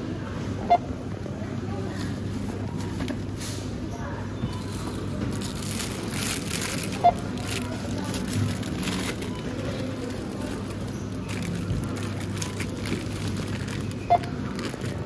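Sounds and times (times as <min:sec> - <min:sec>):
general store noise: 0:00.0 - 0:15.0
murmur of shoppers' voices: 0:00.0 - 0:15.0.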